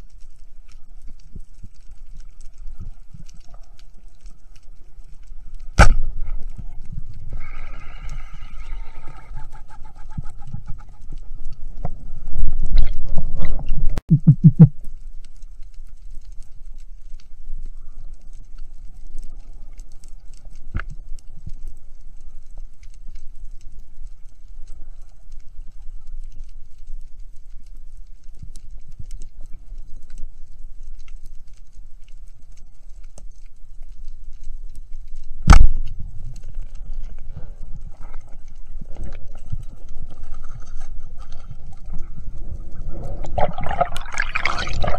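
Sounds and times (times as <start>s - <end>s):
underwater rumbling water noise: 0.0s - 44.9s.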